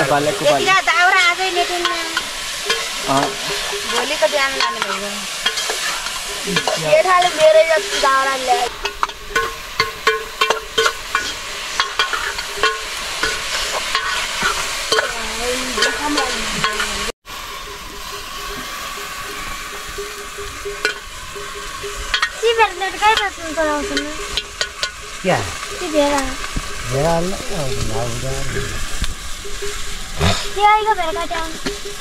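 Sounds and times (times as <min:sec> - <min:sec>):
metal ladle scraping pot: 0:00.0 - 0:25.8
food sizzling: 0:00.0 - 0:32.0.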